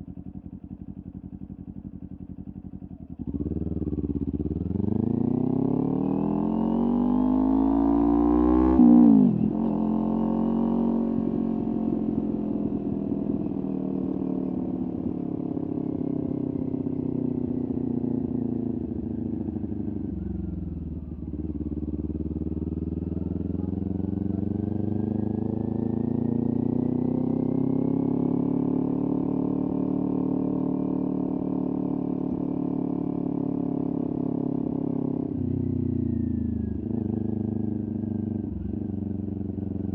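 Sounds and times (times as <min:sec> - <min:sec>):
motorcycle engine revving: 0:02.1 - 0:34.3.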